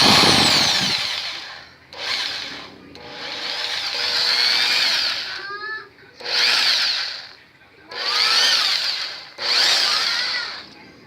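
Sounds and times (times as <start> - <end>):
electric jigsaw motor whining: 0.0 - 5.4, 6.2 - 10.7.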